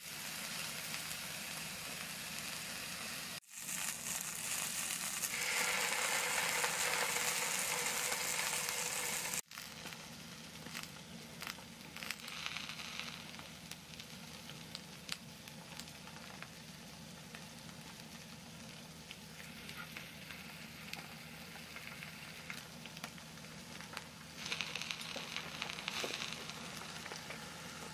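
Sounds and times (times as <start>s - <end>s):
food sizzling in frying pan: 0.0s - 27.9s.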